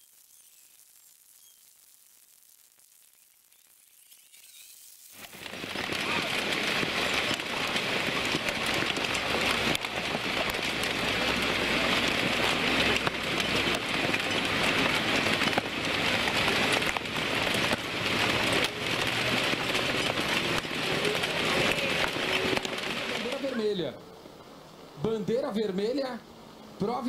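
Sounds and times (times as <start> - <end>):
heavy rain pouring: 4.9 - 27.0.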